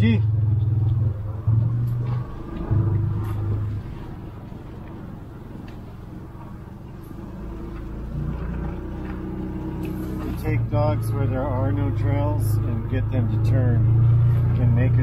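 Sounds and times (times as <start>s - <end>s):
steady hum: 0.0s - 15.0s
vehicle rumbling over rough ground: 0.0s - 15.0s.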